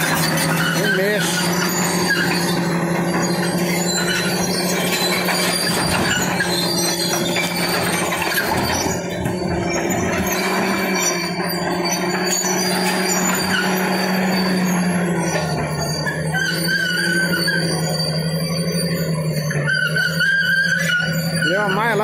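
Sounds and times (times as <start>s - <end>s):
diesel engine droning: 0.0s - 22.0s
steel tracks squealing: 0.0s - 22.0s.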